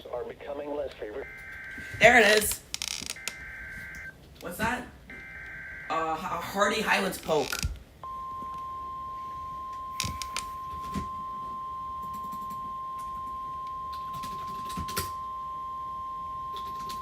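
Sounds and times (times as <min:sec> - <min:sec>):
steady high alarm tone: 0:01.2 - 0:07.0, 0:08.0 - 0:17.0.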